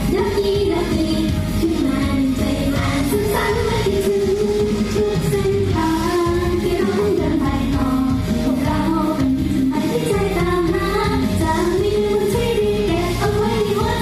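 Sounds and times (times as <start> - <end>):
band backing music: 0.0 - 14.0
women singing: 0.0 - 14.0.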